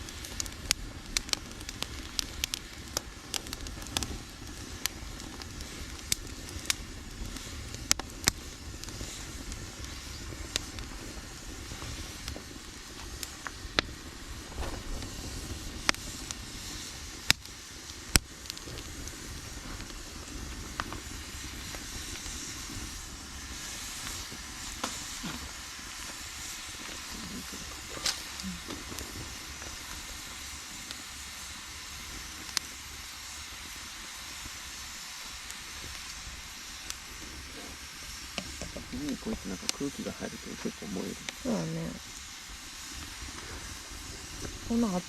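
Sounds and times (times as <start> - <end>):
burning wood crackling pops: 0.0 - 45.0
campfire hissing: 0.0 - 45.0.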